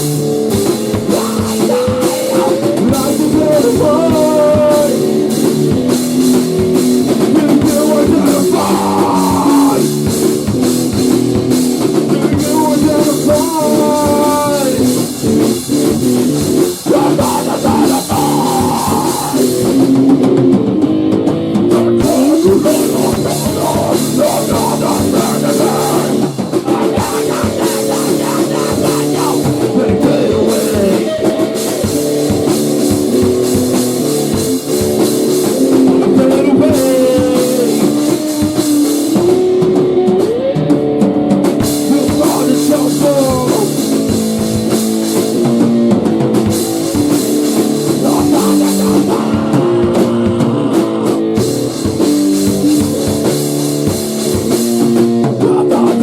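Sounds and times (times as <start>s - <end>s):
sliding guitar notes: 0.0s - 55.9s
rock band playing: 0.0s - 56.0s.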